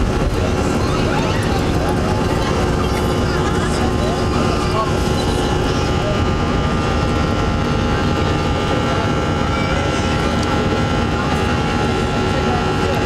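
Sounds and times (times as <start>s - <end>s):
jet engines at takeoff power: 0.0s - 13.0s.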